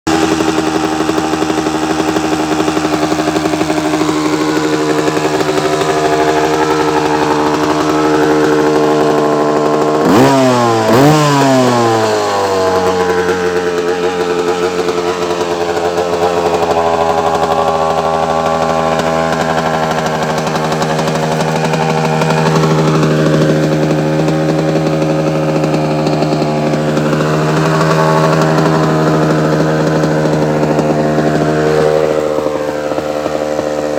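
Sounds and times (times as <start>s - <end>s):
engine revving: 0.0s - 33.9s
two-stroke motorcycle engine idling: 0.1s - 33.9s.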